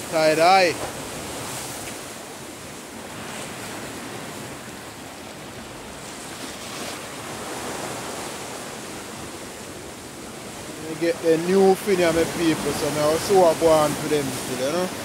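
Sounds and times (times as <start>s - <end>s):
sea waves: 0.0s - 15.0s.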